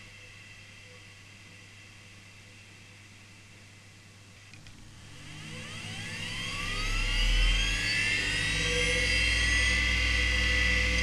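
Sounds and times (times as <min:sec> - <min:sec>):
hard drive spinning up whine: 0:00.0 - 0:03.6, 0:04.4 - 0:11.0.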